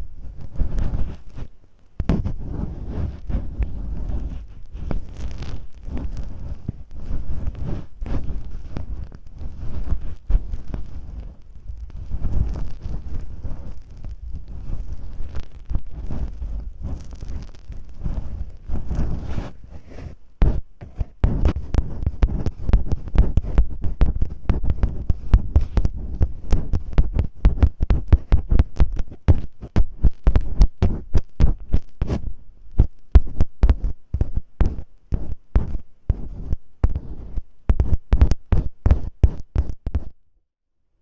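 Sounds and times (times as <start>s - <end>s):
tape crackling on microphone: 0.0s - 40.1s
thumps against microphone: 0.0s - 40.2s.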